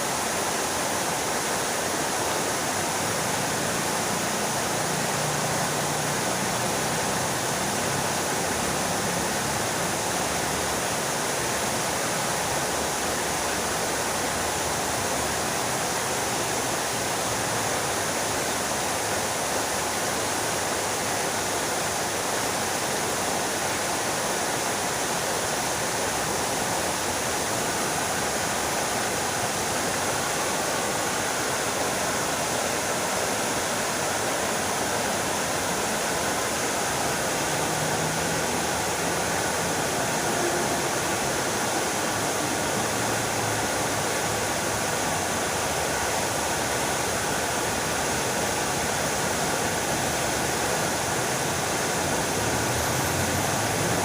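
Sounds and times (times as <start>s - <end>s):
fountain water splashing: 0.0s - 54.0s.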